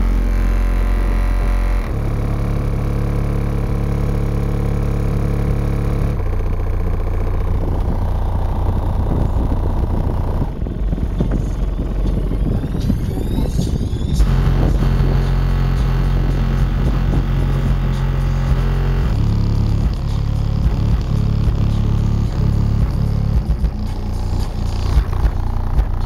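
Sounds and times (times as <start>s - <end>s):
loud deep bass music: 0.0s - 26.0s.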